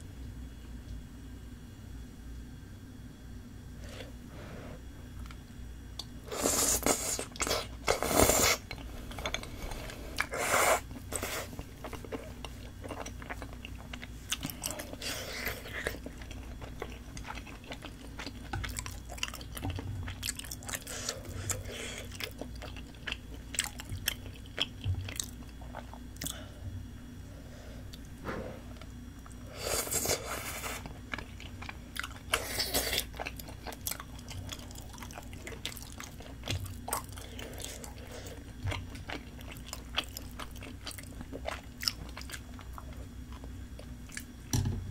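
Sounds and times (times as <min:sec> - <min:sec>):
person chewing with wet mouth sounds: 0:06.0 - 0:26.6, 0:27.8 - 0:44.4.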